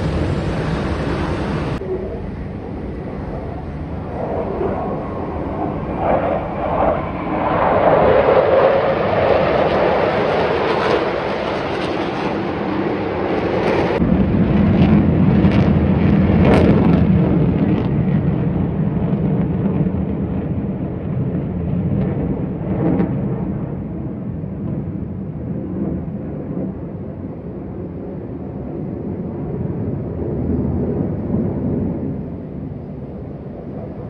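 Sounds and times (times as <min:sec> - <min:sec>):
fighter jets passing overhead: 0:00.0 - 0:34.0.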